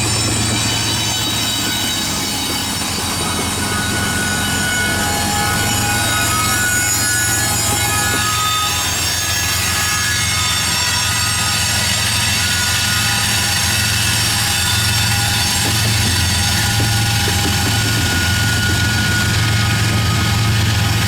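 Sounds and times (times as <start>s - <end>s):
freight train cars rumbling past: 0.0s - 21.0s
high wheel squeals: 0.0s - 21.0s.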